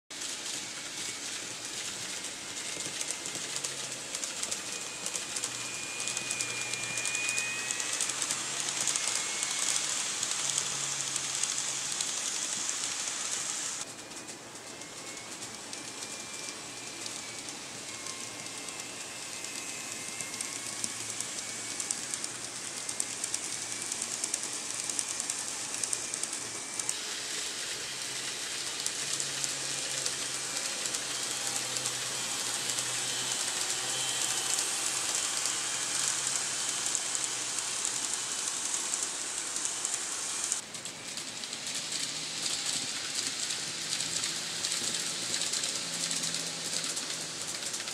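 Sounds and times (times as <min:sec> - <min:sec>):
model train wheels clattering on rails: 0:00.2 - 0:47.9
faint high whine: 0:00.3 - 0:47.8.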